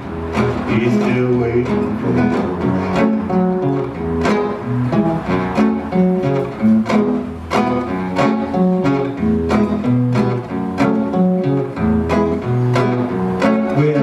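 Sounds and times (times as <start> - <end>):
live band playing cumbia: 0.0 - 14.0.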